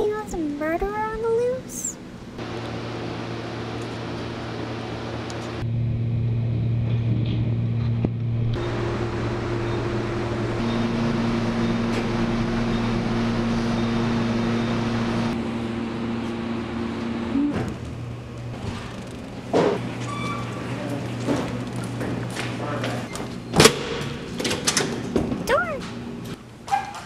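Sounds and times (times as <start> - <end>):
elevator mechanical hum: 0.0 - 27.0.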